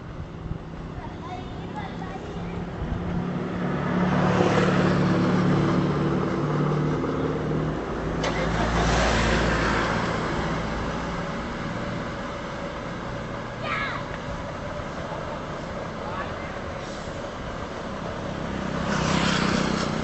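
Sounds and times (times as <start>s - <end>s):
deep rumble of passing vehicle: 0.0s - 20.0s
vehicle engine hum passing: 0.0s - 20.0s.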